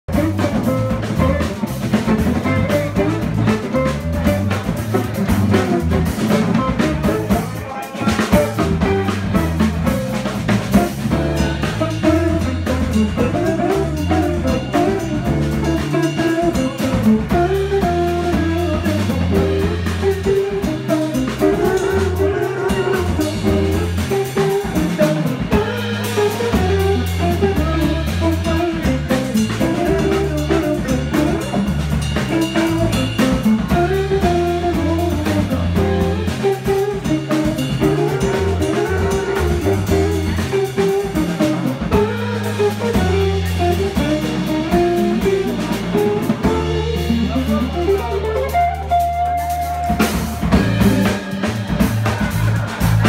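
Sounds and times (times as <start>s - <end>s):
drum kit: 0.0s - 53.0s
jazz band playing: 0.0s - 53.0s
low bass notes: 0.0s - 53.0s
electric guitar: 0.1s - 53.0s.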